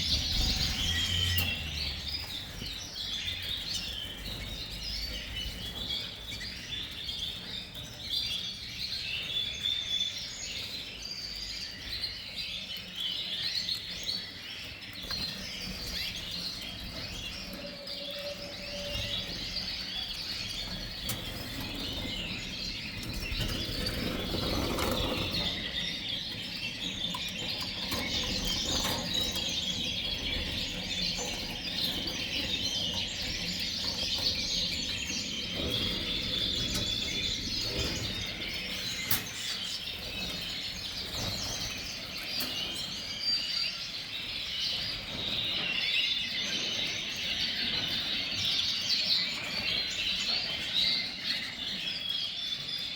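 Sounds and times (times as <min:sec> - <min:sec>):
canaries chirping and singing: 0:00.0 - 0:52.9.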